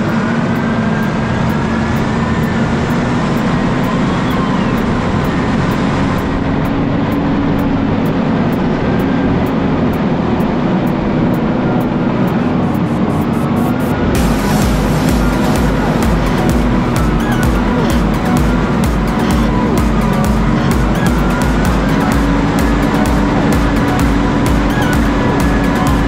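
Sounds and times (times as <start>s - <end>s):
faint engine whine: 0.0s - 26.0s
tractor diesel engine running: 0.0s - 26.0s.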